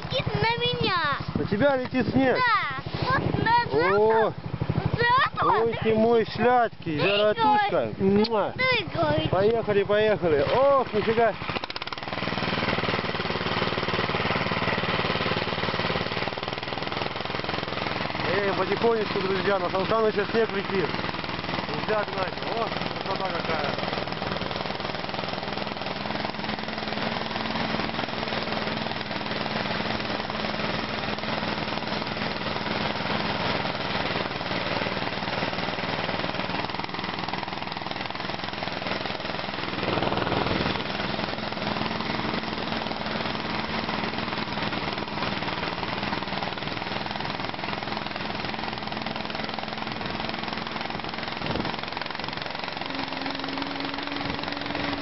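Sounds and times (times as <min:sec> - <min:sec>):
ride noise: 0:00.0 - 0:55.0
small engine droning: 0:00.0 - 0:55.0.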